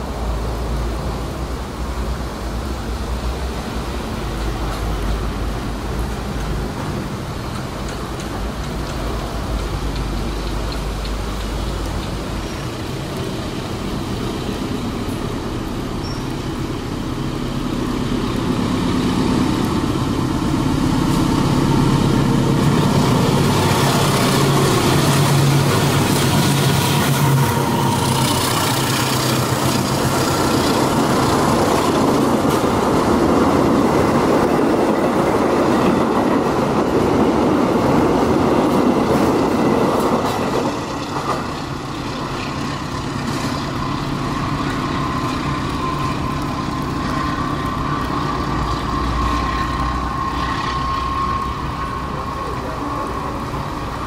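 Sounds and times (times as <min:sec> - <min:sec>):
train wheels clickety-clack on rails: 0:02.7 - 0:54.0
locomotive engine passing: 0:03.1 - 0:54.0.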